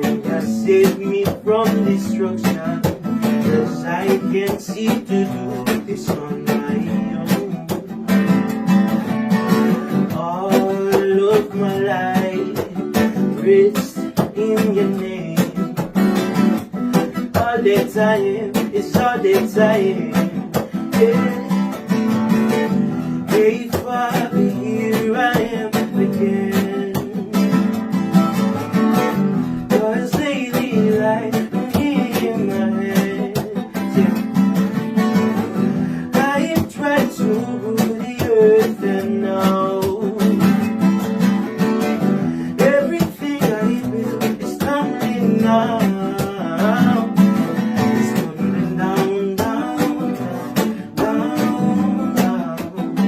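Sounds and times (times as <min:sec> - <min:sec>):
person singing: 0:00.0 - 0:08.2, 0:09.9 - 0:27.8, 0:29.6 - 0:34.4, 0:35.1 - 0:40.8, 0:42.1 - 0:53.0
strummed acoustic guitar: 0:00.0 - 0:53.0.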